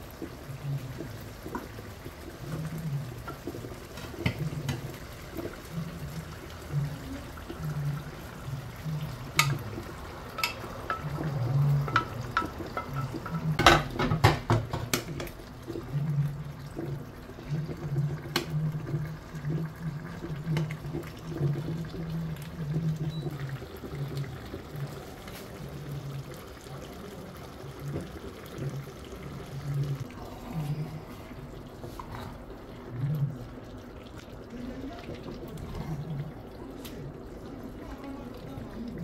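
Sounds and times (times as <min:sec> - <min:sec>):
stew bubbling in a pot: 0:00.0 - 0:39.0.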